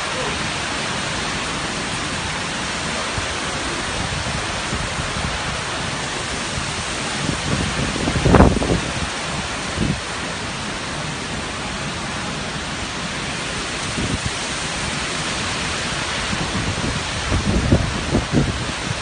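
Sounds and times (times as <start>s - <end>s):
wind buffeting microphone: 0.0s - 10.2s, 13.8s - 19.0s
strong wind blowing: 0.0s - 11.9s, 13.2s - 19.0s.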